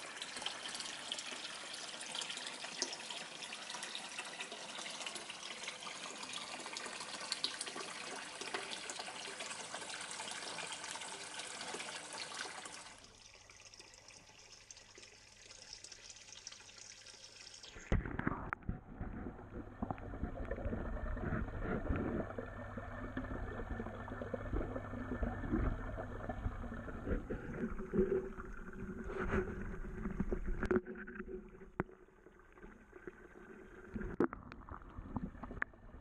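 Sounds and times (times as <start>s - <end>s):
water pouring and splashing: 0.0s - 36.0s.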